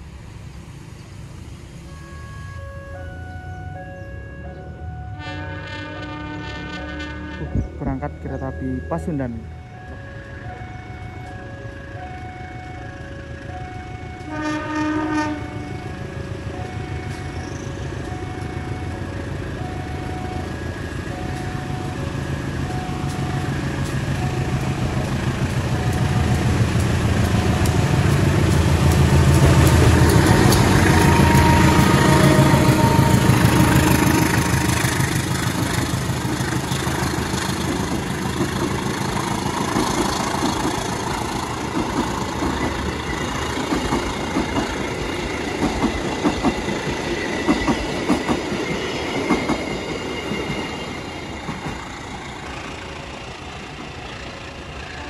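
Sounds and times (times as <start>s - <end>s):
diesel locomotive engine passing: 0.0s - 55.0s
passenger coaches rolling past: 0.0s - 55.0s.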